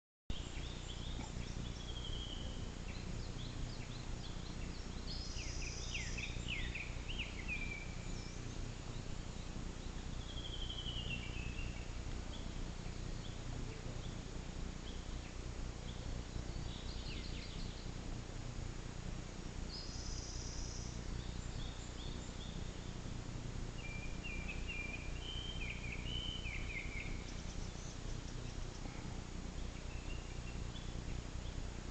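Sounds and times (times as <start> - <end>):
birds chirping and trilling: 0.3 - 31.9
steady low hum: 0.3 - 31.9.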